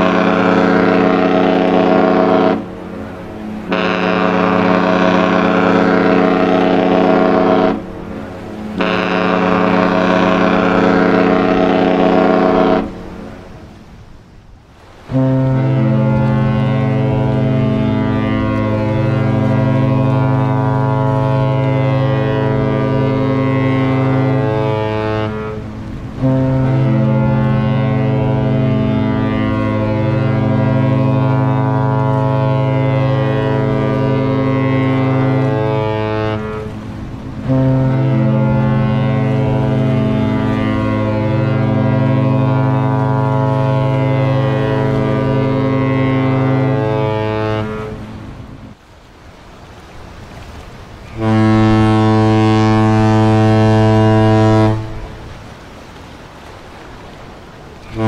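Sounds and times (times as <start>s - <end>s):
ship horn blast: 0.0s - 14.0s, 14.8s - 48.8s, 51.0s - 58.0s
deep ship horn blasts: 0.0s - 14.1s, 14.8s - 48.8s, 50.3s - 58.0s.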